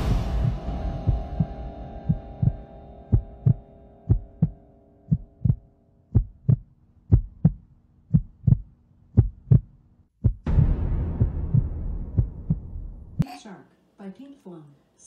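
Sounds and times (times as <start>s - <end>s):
heartbeat thumps: 0.0s - 13.2s.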